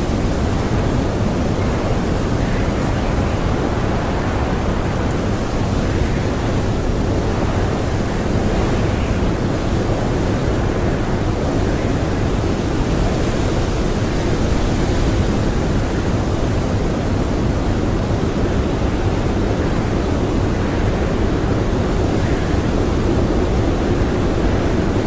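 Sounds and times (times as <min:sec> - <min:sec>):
blizzard wind blowing hard: 0:00.0 - 0:25.0.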